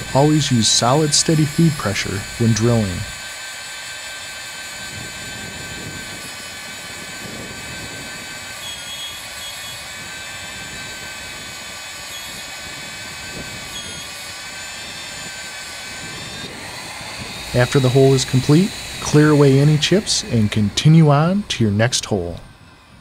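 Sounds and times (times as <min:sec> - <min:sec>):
magnetic drill whining: 0:00.0 - 0:23.0.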